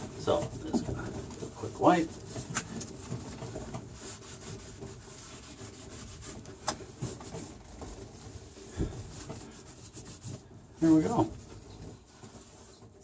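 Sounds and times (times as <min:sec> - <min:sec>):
rag rubbing boat surface: 0:00.0 - 0:13.0.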